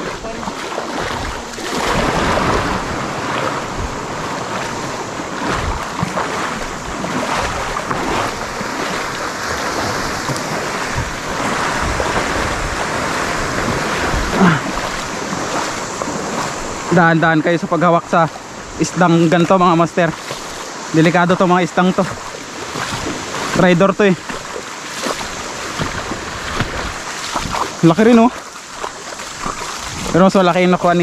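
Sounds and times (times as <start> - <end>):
waves washing: 0.0 - 31.0
wind buffeting microphone: 0.0 - 31.0.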